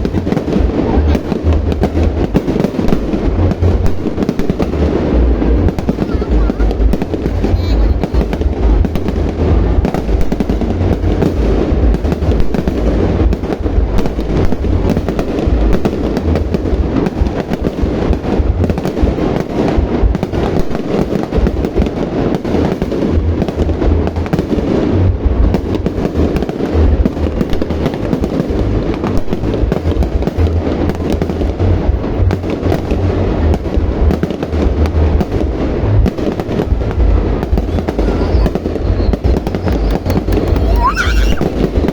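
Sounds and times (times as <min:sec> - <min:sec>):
fireworks bursting: 0:00.0 - 0:41.9
heavy low rumble: 0:00.0 - 0:41.9.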